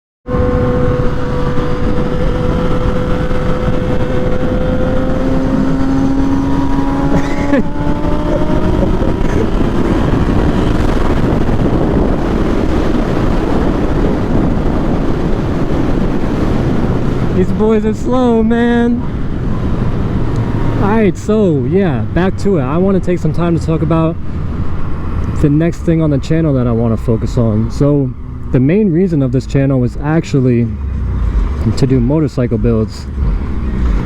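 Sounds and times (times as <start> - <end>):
motorcycle engine accelerating: 0.2 - 34.0
wind rush on microphone: 0.3 - 34.0.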